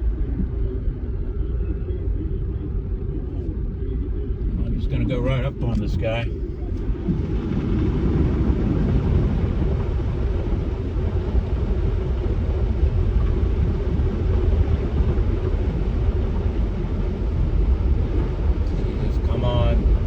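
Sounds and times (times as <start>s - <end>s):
car interior rumble: 0.0s - 20.0s.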